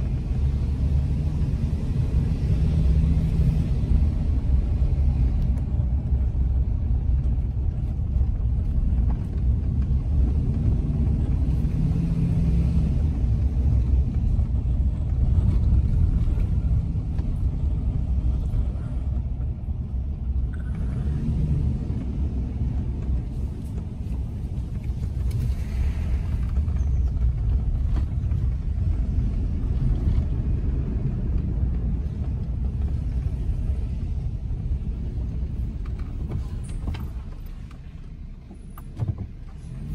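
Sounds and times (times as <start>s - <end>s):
car engine rumble: 0.0s - 39.9s
tyres on road: 0.0s - 39.9s.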